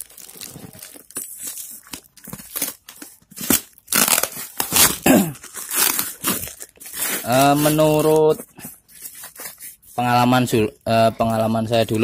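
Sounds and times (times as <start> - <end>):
cardboard and tape ripping: 0.0 - 9.8.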